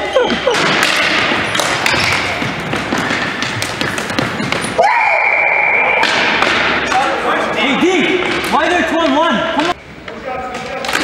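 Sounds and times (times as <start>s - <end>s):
sticks and ball on hardwood floor: 0.0s - 4.8s, 6.0s - 11.0s.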